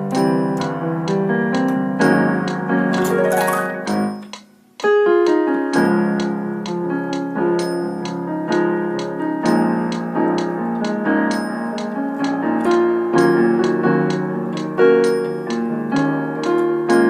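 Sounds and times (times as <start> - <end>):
piano ballad: 0.0 - 4.3, 4.9 - 17.0.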